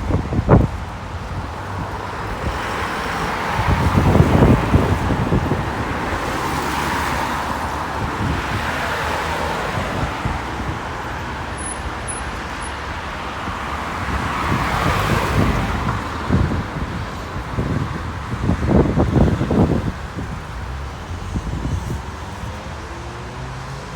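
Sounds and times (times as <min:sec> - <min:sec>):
wind buffeting microphone: 0:00.0 - 0:22.8
road traffic passing: 0:00.0 - 0:23.9.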